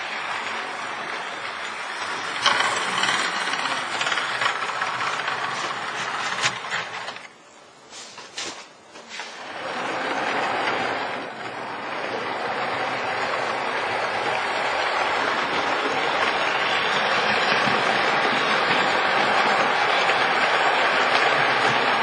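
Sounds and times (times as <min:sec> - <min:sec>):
model train wheels rumbling: 0:00.0 - 0:07.3, 0:09.2 - 0:22.0.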